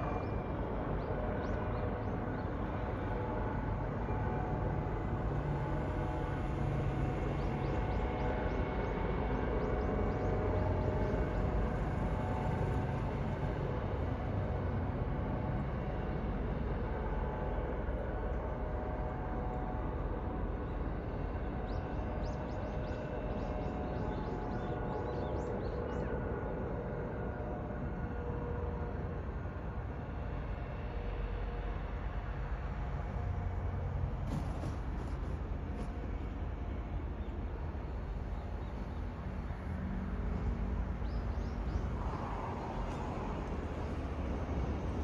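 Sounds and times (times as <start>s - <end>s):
helicopter drone: 0.0s - 45.0s.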